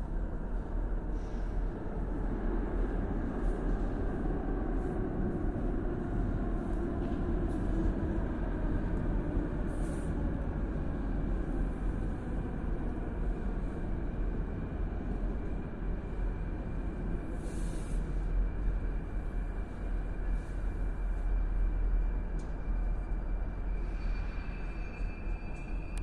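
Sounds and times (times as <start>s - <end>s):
metro train rumbling: 0.0s - 26.0s.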